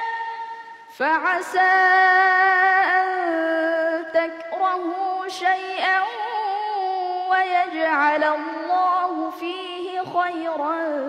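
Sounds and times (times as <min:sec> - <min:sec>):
boy reciting melodically: 0:00.0 - 0:11.0.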